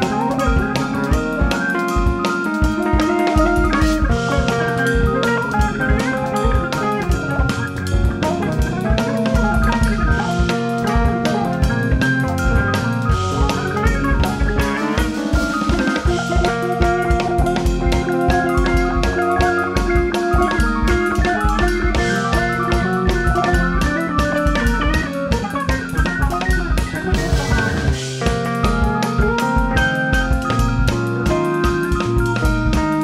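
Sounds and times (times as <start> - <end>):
drum kit: 0.0 - 33.0
electric bass line: 0.0 - 33.0
piano chords: 0.0 - 33.0.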